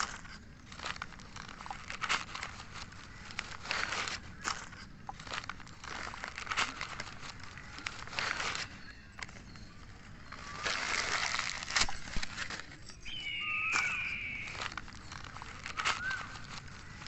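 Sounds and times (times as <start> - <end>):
newspaper crinkling and rustling: 0.0 - 17.0.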